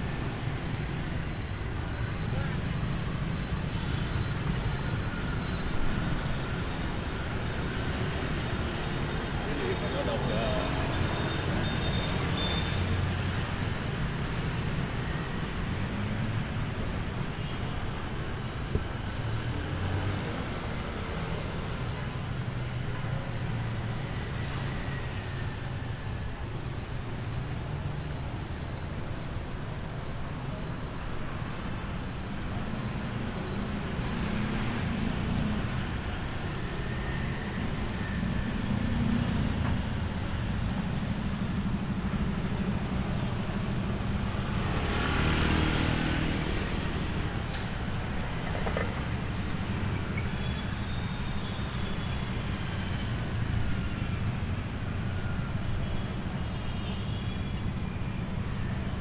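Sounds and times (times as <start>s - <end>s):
street traffic hum: 0.0s - 59.0s.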